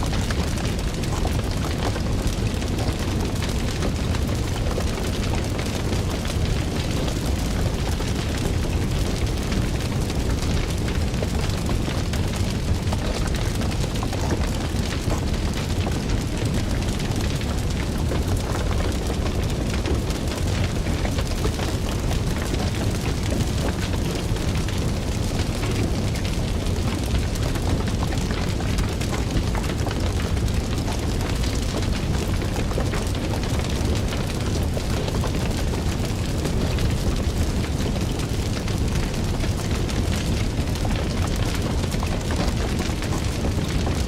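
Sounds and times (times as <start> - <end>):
fire rumbling and crackling: 0.0 - 44.0.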